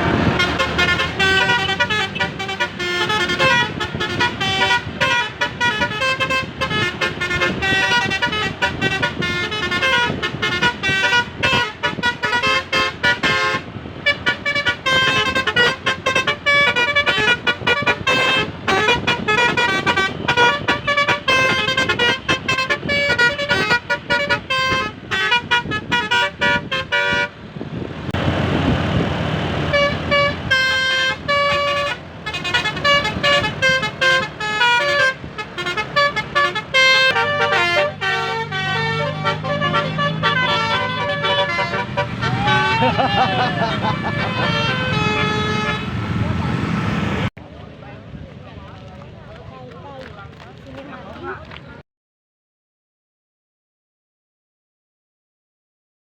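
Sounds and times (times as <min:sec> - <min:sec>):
bus horn playing fast melody: 0:00.0 - 0:27.5, 0:29.4 - 0:47.1.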